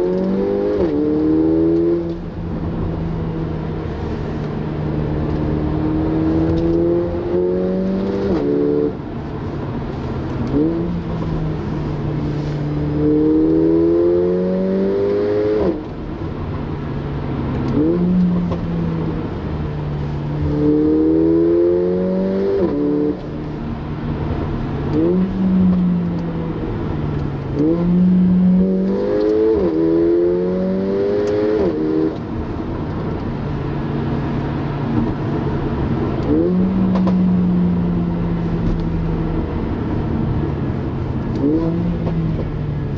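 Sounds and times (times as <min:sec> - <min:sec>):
car engine accelerating through gears: 0:00.0 - 0:42.9.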